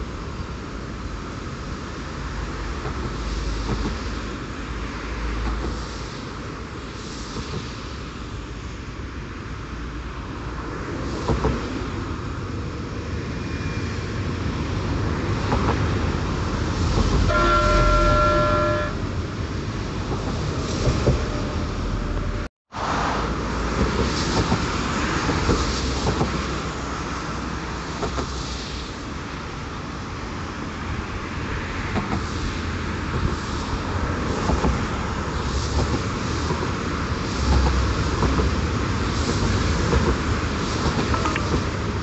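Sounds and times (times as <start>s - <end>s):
low wind rumble: 0.0s - 42.0s
road traffic: 0.0s - 42.0s
trains running over steel bridge: 0.0s - 42.0s.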